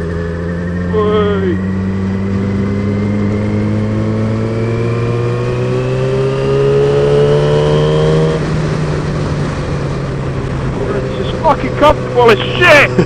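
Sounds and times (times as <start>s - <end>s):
motorcycle engine accelerating: 0.0s - 13.0s
road and wind noise: 0.0s - 13.0s.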